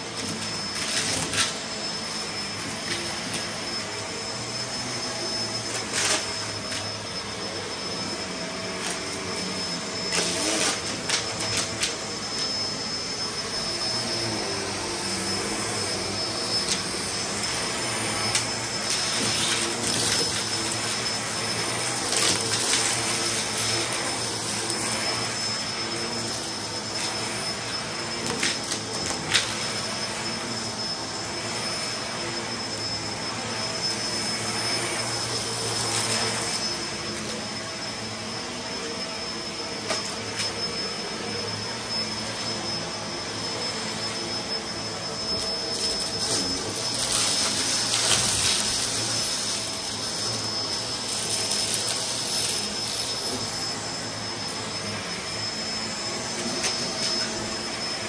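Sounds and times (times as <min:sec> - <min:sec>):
vacuum cleaner motor whining: 0:00.0 - 0:58.0.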